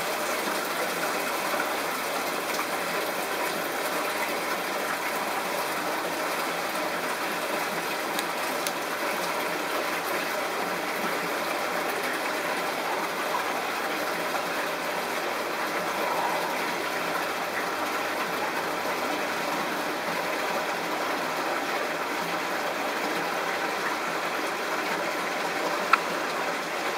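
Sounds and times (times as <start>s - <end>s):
aquarium water flow hiss: 0.0s - 26.9s.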